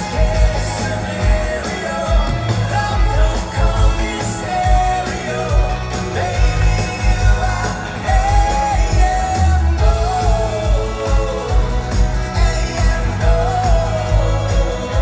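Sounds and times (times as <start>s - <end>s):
drums: 0.0s - 15.0s
electric guitar: 0.0s - 15.0s
man singing long notes: 0.0s - 15.0s.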